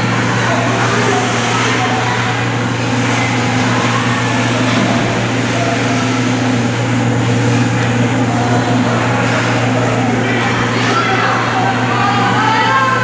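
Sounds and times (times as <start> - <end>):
faint indistinct voices: 0.0 - 13.0
low machine hum: 0.0 - 13.0.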